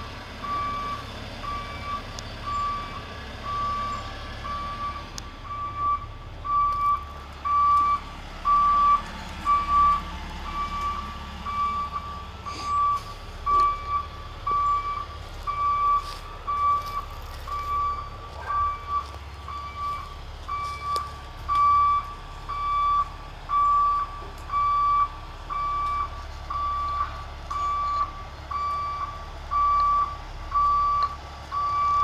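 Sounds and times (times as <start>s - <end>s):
truck engine running low: 0.0s - 32.0s
backup alarm beeping: 0.4s - 32.0s.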